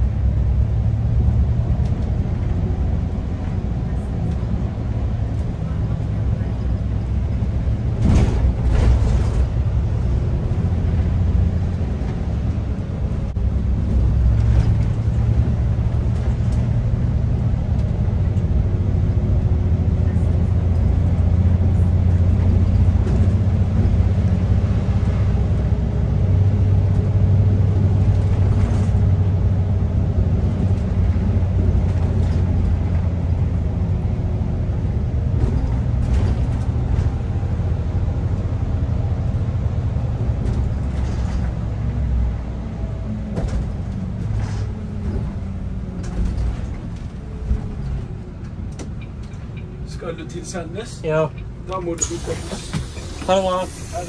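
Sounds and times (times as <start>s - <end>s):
bus drivetrain drone: 0.0s - 54.0s
road noise: 0.0s - 54.0s.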